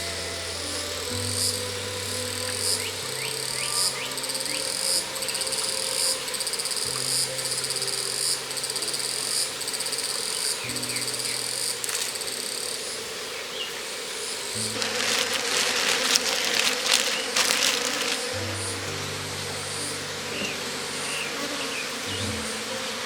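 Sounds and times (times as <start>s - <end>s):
insects chirping in pulsing trills: 0.0s - 23.0s.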